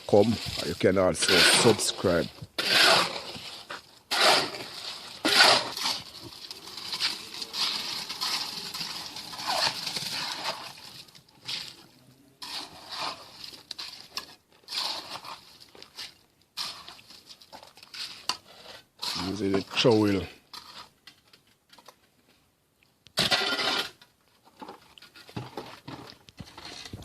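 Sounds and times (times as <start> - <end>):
trowel scraping wet concrete: 0.0 - 21.0, 23.2 - 24.0, 25.1 - 27.0.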